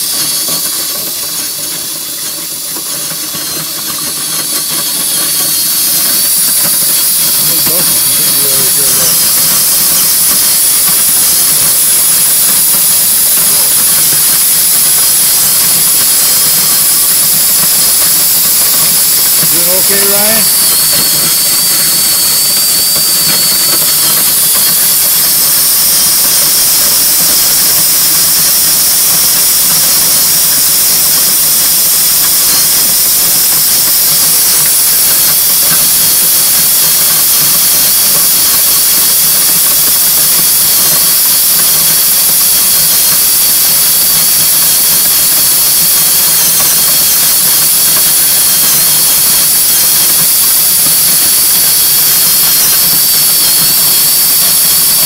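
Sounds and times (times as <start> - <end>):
grain auger running: 0.0 - 55.0
grain pouring hiss: 0.0 - 55.0
high whine from drive: 0.0 - 55.0.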